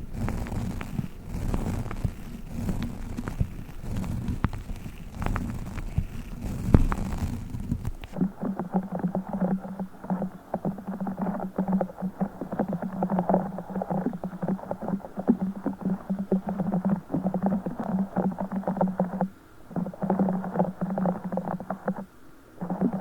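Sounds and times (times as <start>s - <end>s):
water beads crackling squish: 0.0s - 19.2s.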